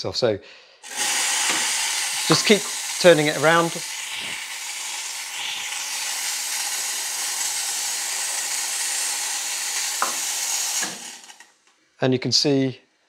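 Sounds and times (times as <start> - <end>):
steam wand hissing: 0.8 - 11.6.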